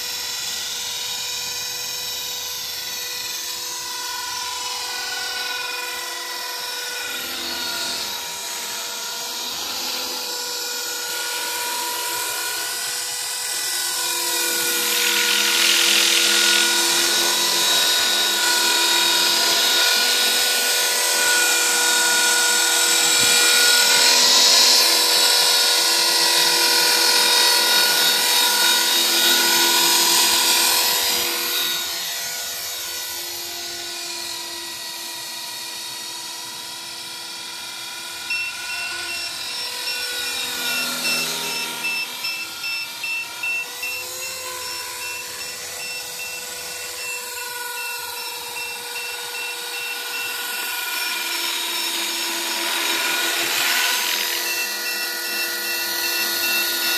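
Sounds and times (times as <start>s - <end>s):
rc helicopter whine: 0.0s - 56.9s.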